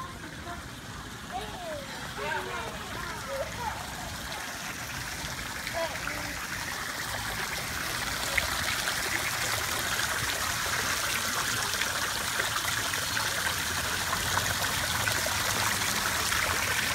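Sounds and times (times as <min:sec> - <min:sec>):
fountain water splashing into basin: 0:00.0 - 0:16.9.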